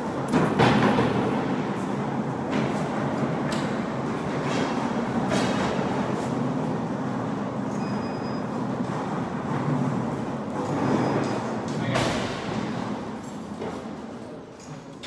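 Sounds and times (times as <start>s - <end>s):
cart rolling on concrete: 0.0s - 15.0s.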